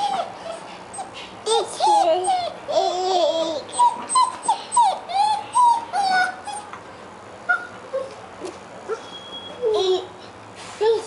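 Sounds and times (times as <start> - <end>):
puppy whimpering: 0.0 - 6.8, 7.5 - 10.2.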